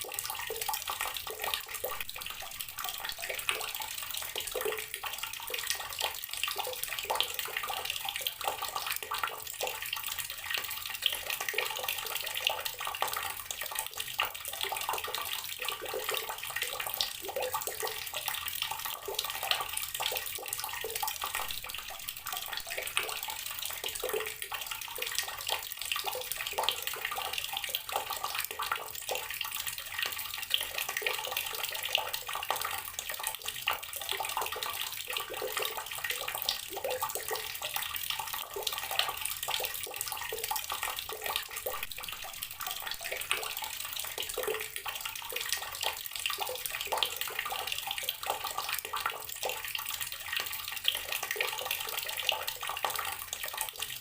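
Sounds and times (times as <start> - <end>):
water splashing from tap: 0.0 - 54.0.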